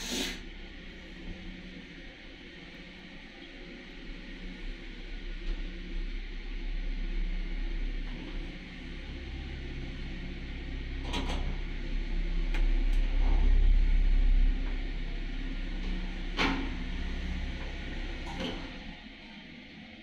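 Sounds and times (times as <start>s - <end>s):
elevator motor and rope rumble: 0.0s - 20.0s.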